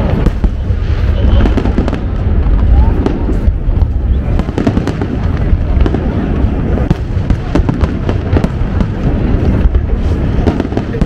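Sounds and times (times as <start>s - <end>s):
continuous low rumble: 0.0s - 11.0s
fireworks bangs and crackles: 0.0s - 11.0s.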